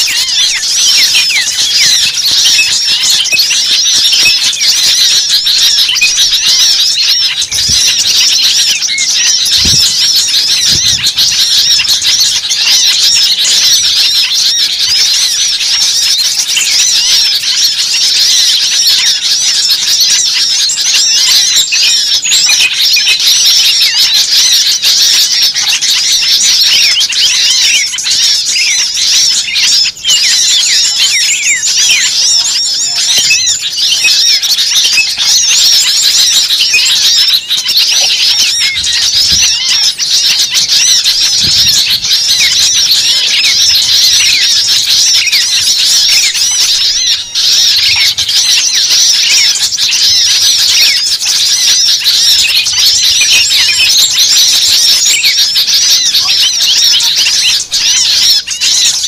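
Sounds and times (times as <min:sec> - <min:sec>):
chorus of small birds chirping: 0:00.0 - 0:59.0.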